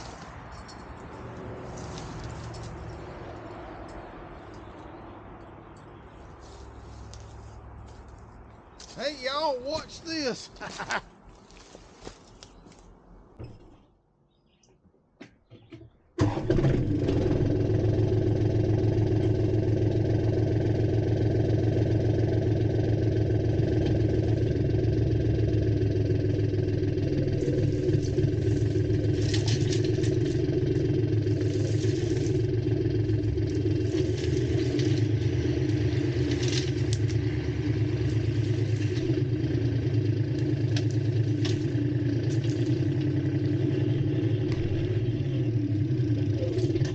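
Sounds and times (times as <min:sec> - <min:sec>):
vehicle engine running: 0:00.0 - 0:12.6, 0:16.2 - 0:46.9.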